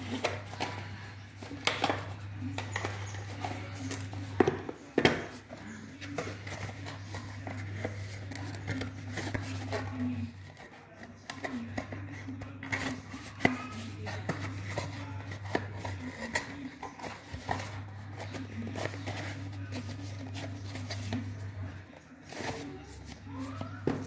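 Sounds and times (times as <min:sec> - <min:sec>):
hands handling cardboard packaging: 0:00.0 - 0:24.0.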